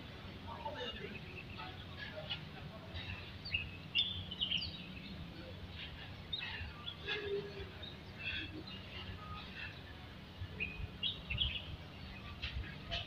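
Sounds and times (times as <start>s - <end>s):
low background noise: 0.0s - 13.0s
small birds chirping: 0.0s - 13.0s.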